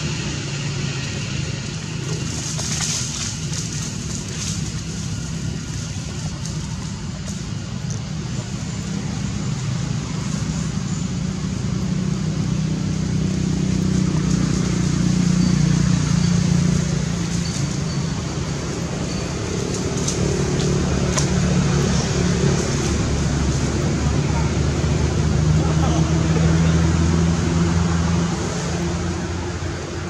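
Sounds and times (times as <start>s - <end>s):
low engine hum: 0.0s - 30.0s.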